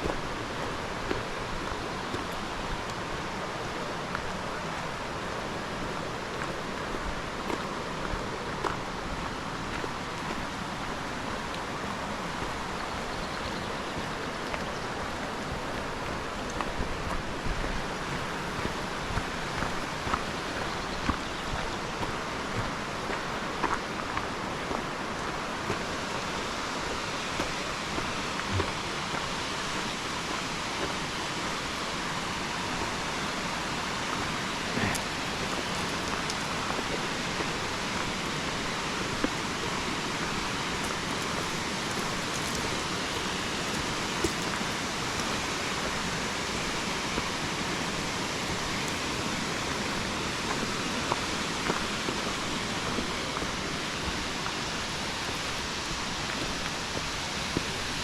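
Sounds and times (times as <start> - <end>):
river and waterfall rushing: 0.0 - 58.0.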